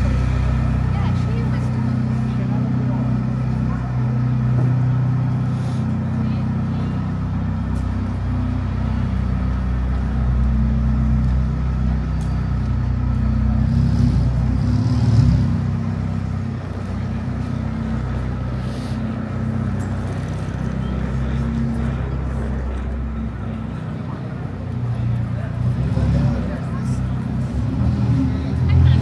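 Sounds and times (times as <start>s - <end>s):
street traffic: 0.0s - 29.0s
vehicle engine humming: 0.0s - 29.0s.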